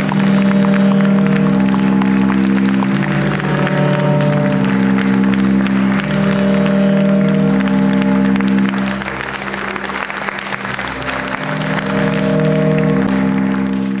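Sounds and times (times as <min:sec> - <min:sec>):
audience applauding: 0:00.0 - 0:14.0
music with long held chords: 0:00.0 - 0:14.0.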